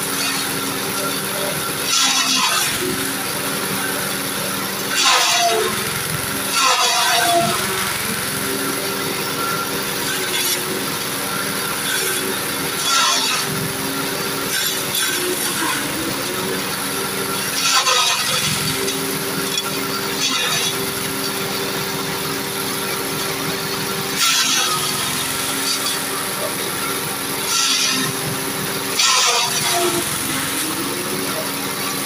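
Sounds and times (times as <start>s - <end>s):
machine chopping fodder: 0.0s - 32.0s
small engine running: 0.0s - 32.0s.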